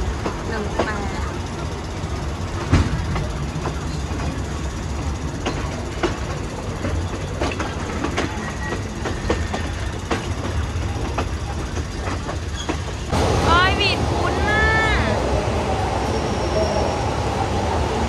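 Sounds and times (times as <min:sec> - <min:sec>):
train rumble: 0:00.0 - 0:18.0
wheels clattering on track: 0:00.0 - 0:18.0.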